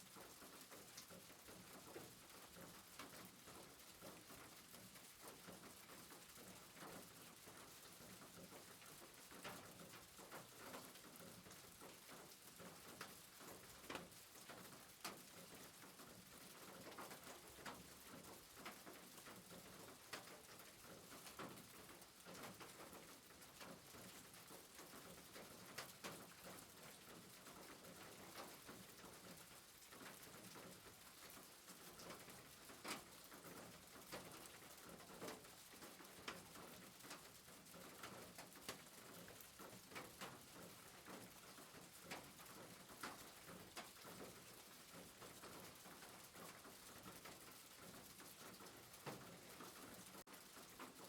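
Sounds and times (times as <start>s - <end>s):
rain drips and taps: 0.0s - 51.0s
soft rain hiss: 0.0s - 51.0s.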